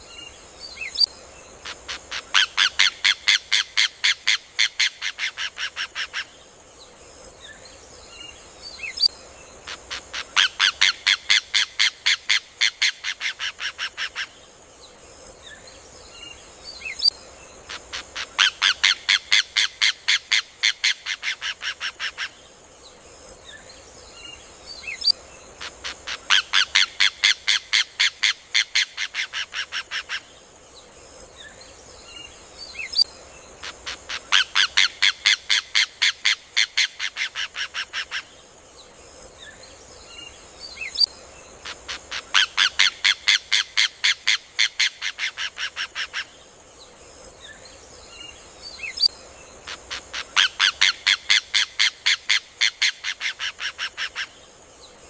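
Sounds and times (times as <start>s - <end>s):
faint chirps of other birds: 0.0s - 55.0s.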